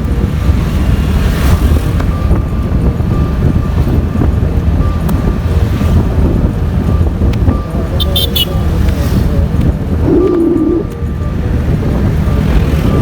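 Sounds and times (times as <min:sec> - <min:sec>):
wind and road noise rumble: 0:00.0 - 0:13.0.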